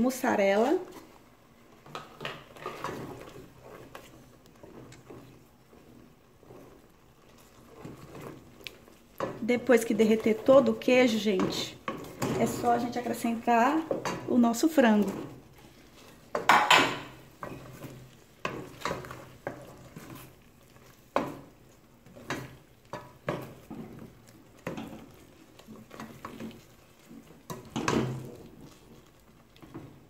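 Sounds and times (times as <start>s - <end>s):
wooden spoon scraping a pot: 0.1s - 30.0s.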